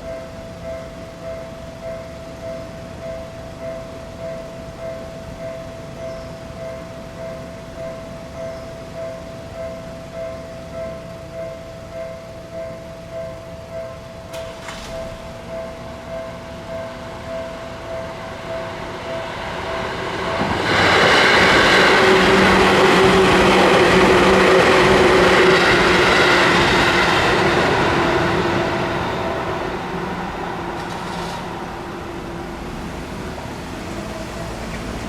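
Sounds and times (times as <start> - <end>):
crossing warning bell ringing: 0.0 - 34.5
electric train passing: 0.0 - 35.0.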